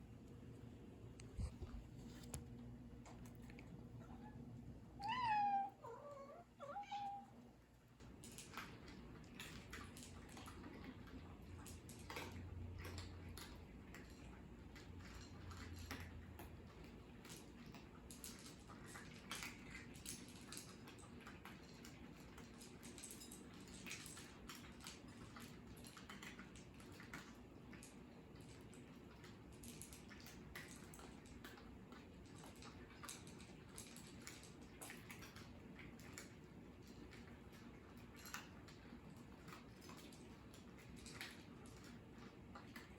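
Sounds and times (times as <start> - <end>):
cats chewing and licking: 0.0 - 42.9.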